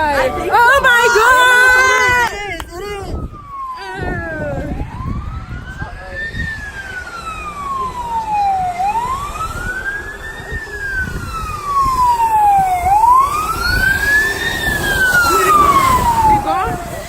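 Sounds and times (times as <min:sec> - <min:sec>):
emergency siren wailing: 0:00.0 - 0:17.0
low traffic rumble: 0:00.0 - 0:17.0.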